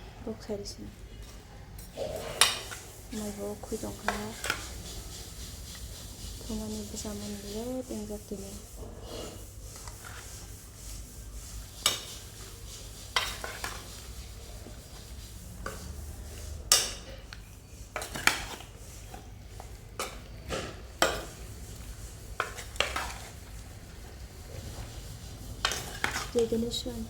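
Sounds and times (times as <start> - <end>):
utensil scraping a pot: 1.3 - 27.0.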